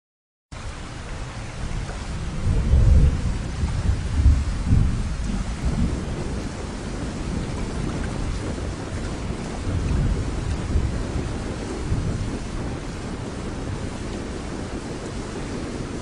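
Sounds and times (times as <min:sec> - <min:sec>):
rushing floodwater: 0:00.5 - 0:16.0
wind rumbling on microphone: 0:00.6 - 0:16.0.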